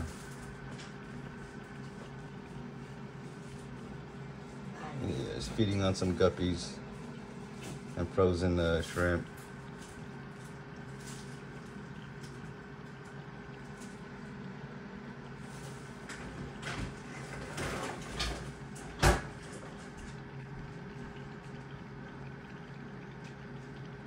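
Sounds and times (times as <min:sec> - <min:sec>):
aquarium equipment humming: 0:00.0 - 0:24.0.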